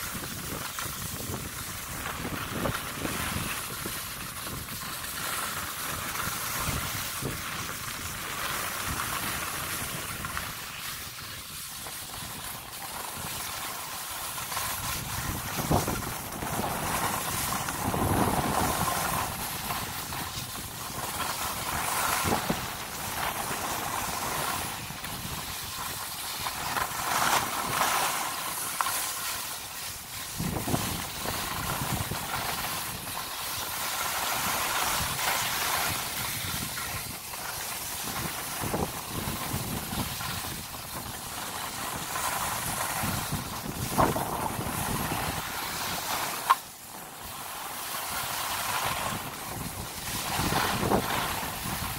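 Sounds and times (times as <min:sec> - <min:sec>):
wind on microphone: 0:00.0 - 0:28.8, 0:29.8 - 0:47.4, 0:48.1 - 0:51.9
skis scraping over snow: 0:00.0 - 0:51.9.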